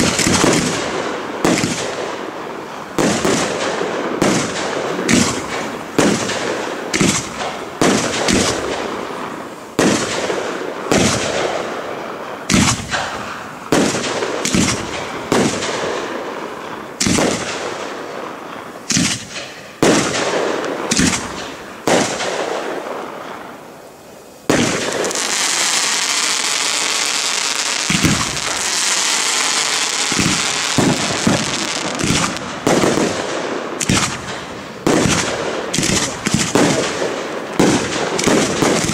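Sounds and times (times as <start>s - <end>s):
firework shells bursting: 0.0s - 2.0s, 2.7s - 38.9s
steady high hiss: 0.0s - 38.9s.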